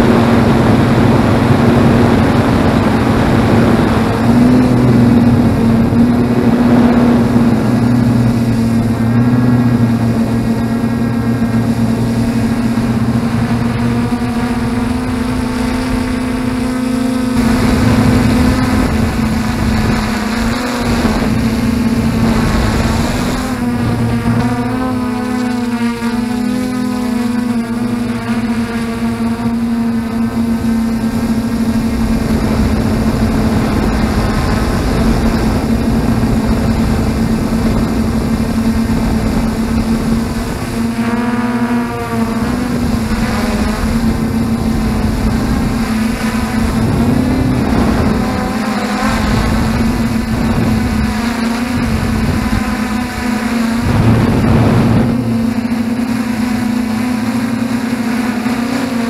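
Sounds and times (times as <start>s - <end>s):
quadcopter motors humming: 0.0s - 59.0s
wind rumble on microphone: 0.0s - 59.0s.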